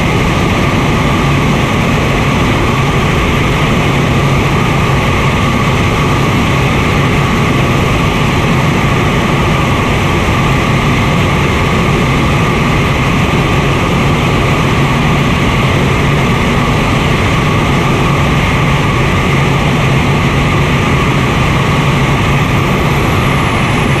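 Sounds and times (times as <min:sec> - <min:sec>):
turbojet engine drone: 0:00.0 - 0:24.0.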